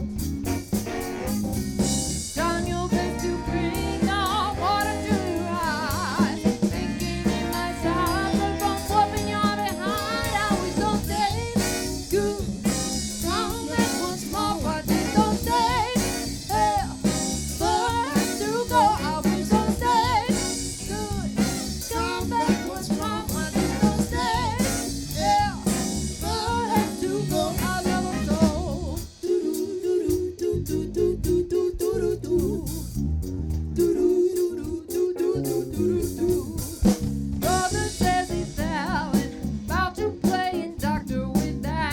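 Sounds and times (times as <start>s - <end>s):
live band with vocals: 0.4s - 33.0s, 33.8s - 41.9s.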